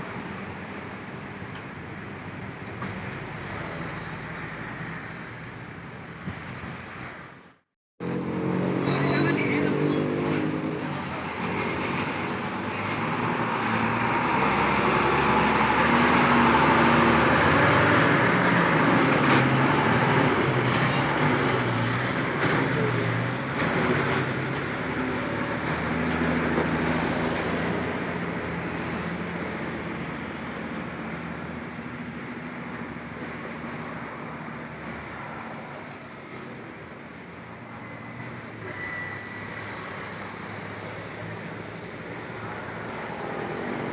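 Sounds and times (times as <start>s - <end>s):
truck passing: 8.0s - 43.9s.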